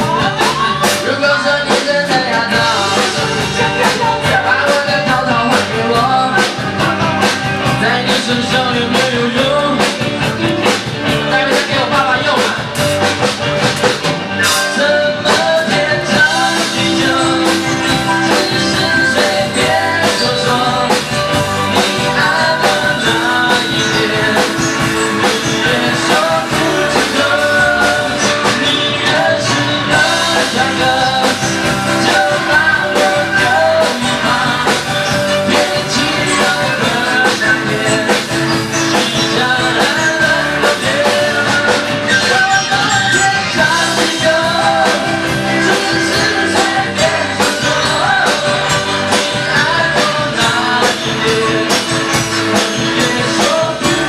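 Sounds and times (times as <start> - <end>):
person singing: 0.0 - 13.0, 14.2 - 54.0
bass guitar: 0.0 - 54.0
drums: 0.0 - 54.0
electric guitar: 0.0 - 54.0.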